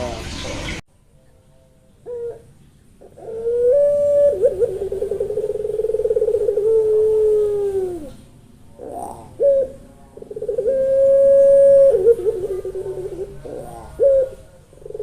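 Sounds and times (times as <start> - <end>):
dove cooing: 2.0 - 15.0.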